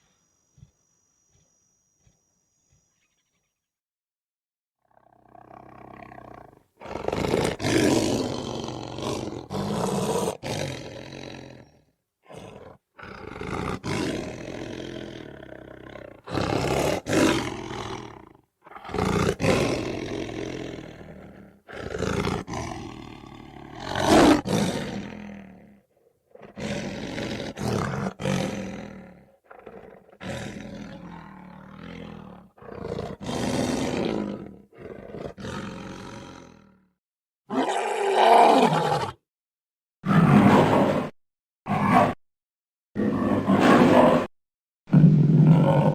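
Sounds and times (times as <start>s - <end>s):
animal roars: 4.8s - 36.9s, 37.5s - 39.2s, 40.0s - 41.1s, 41.7s - 42.2s, 43.0s - 44.3s, 44.9s - 45.9s.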